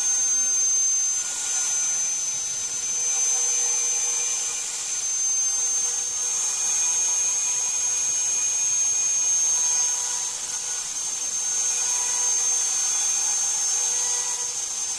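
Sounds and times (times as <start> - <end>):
router spindle whining: 0.0 - 14.9.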